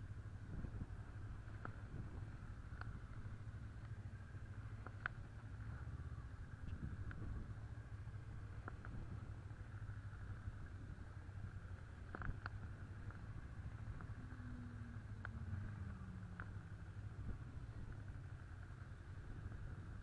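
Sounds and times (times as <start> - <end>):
faint ticks: 0.0 - 20.0
motorcycle engine droning: 0.0 - 20.0.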